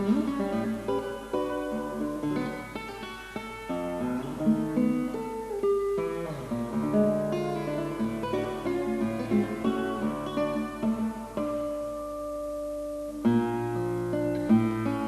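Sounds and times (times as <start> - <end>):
acoustic guitar melody: 0.0 - 15.0.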